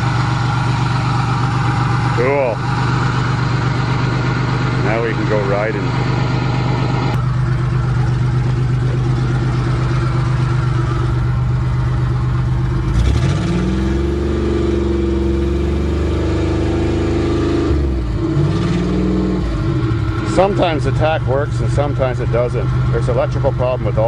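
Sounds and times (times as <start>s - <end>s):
van engine running while driving: 0.0s - 24.0s.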